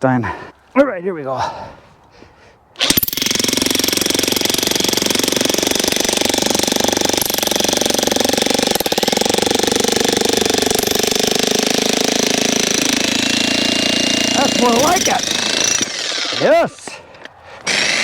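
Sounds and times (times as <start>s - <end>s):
jackhammer splitting log: 2.8s - 17.0s, 17.6s - 18.0s.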